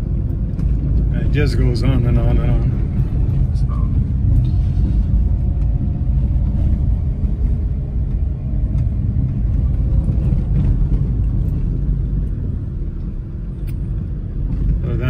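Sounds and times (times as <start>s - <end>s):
car driving low rumble: 0.0s - 15.0s.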